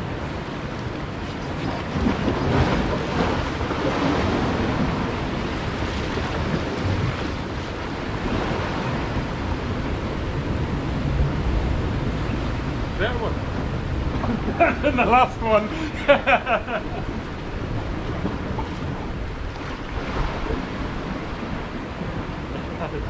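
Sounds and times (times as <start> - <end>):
sea waves washing against rocks: 0.0 - 23.0
wind buffeting microphone: 0.0 - 23.0.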